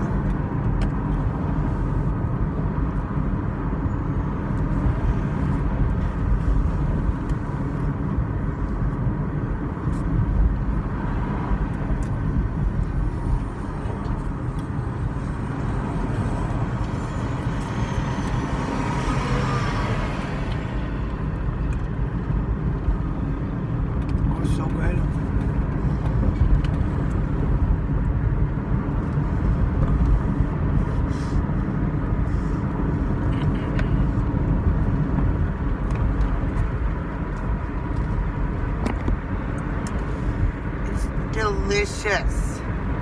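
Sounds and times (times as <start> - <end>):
wind and road noise in car: 0.0 - 43.0.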